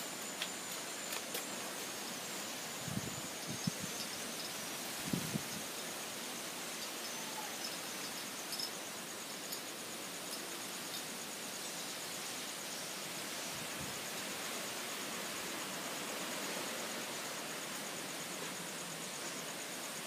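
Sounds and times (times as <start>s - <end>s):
insect high pulsing trill: 0.0s - 20.0s
wind rustling through trees: 0.0s - 20.0s.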